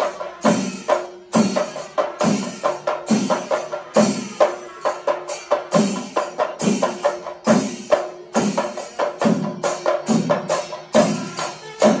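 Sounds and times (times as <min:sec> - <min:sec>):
cymbals: 0:00.0 - 0:12.0
drums beaten with sticks: 0:00.0 - 0:12.0.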